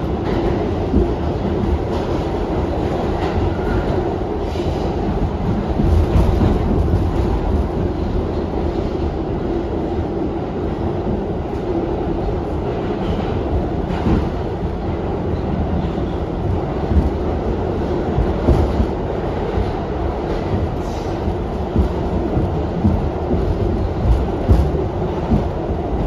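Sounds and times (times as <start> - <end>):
subway wheels rumbling on rail: 0.0 - 26.0.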